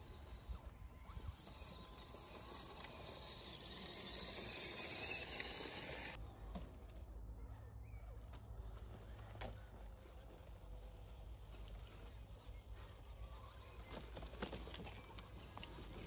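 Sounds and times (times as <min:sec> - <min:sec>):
toy truck rustling through grass: 0:00.0 - 0:07.2, 0:08.4 - 0:16.0.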